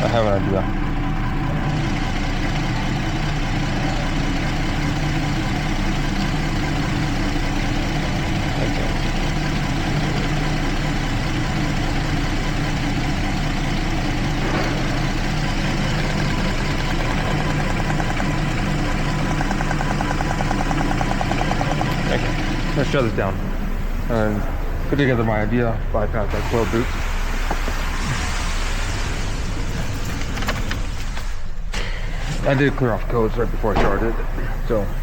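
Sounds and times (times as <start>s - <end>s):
engine idling with misfire: 0.0s - 35.0s.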